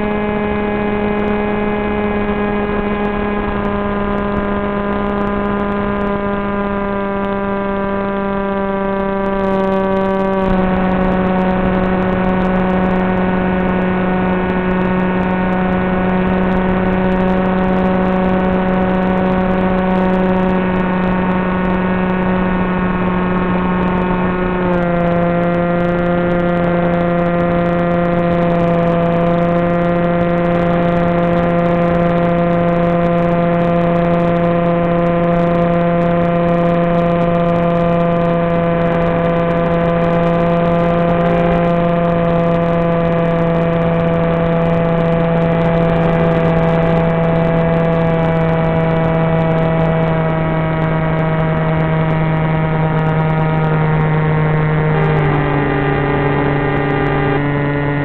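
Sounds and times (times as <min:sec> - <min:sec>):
electric motor propeller buzzing: 0:00.0 - 0:58.0.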